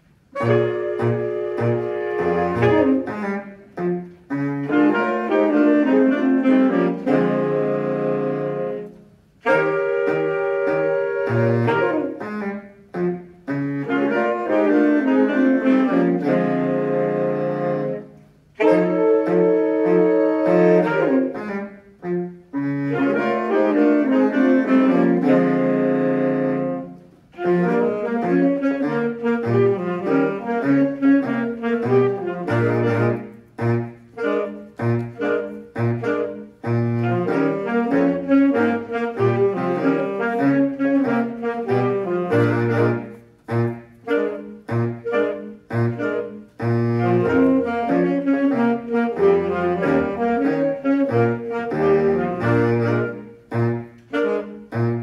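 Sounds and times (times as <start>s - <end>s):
saxophone ensemble playing jazz: 0.0s - 55.0s
baritone saxophone: 0.1s - 55.0s.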